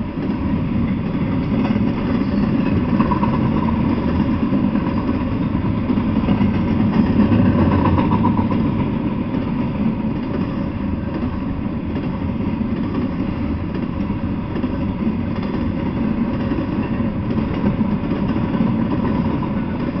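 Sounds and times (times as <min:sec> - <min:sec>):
freight train rumble: 0:00.0 - 0:20.0.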